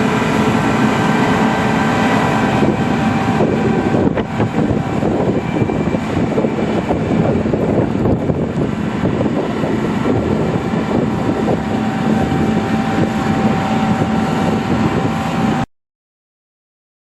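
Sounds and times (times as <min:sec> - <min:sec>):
combine harvester drone: 0:00.0 - 0:15.7
thin machinery whine: 0:00.0 - 0:15.7.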